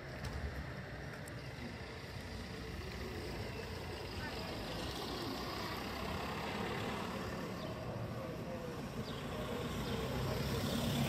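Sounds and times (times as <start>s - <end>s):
cars driving slowly past: 0.0s - 11.0s.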